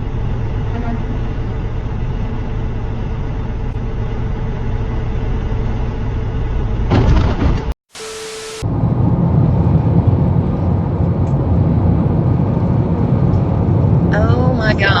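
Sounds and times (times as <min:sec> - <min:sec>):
harsh rushing noise: 0:00.0 - 0:14.2
vehicle engine rumbling: 0:00.0 - 0:15.0.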